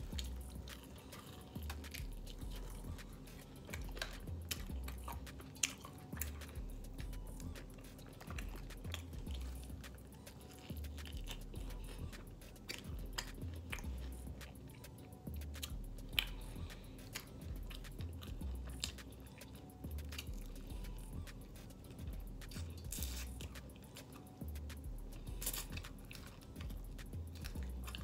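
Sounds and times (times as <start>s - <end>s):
background music with bass: 0.0s - 28.0s
chewing crunchy chicken: 0.0s - 28.0s.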